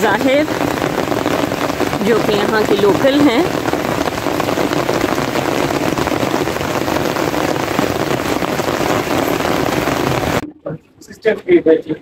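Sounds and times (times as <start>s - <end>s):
hard rain falling: 0.0s - 10.4s.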